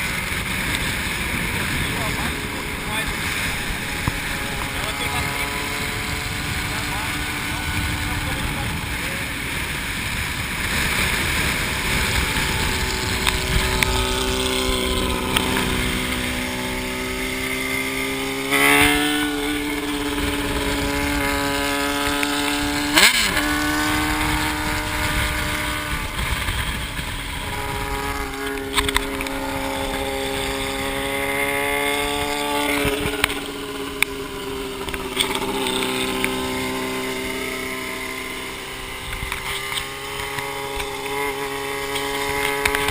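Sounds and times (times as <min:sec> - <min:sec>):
motorcycle engine revving: 0:00.0 - 0:42.9
steady rush of noise: 0:00.0 - 0:42.9.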